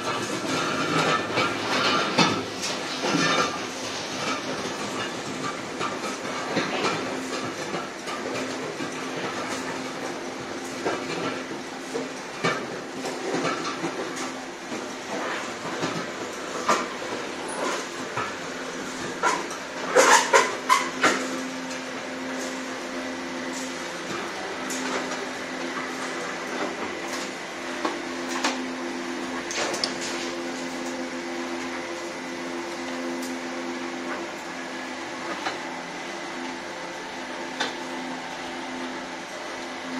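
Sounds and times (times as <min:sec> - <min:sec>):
conveyor machinery humming: 0:00.0 - 0:39.9.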